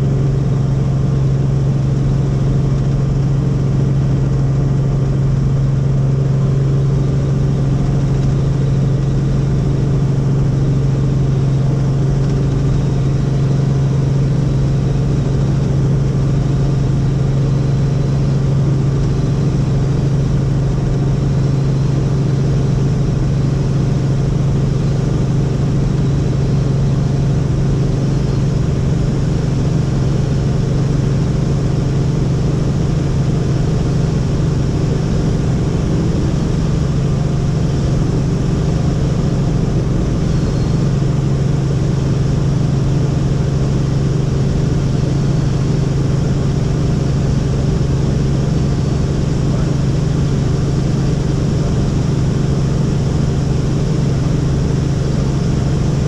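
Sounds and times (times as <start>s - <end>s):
helicopter rotor and turbine drone: 0.0s - 56.0s.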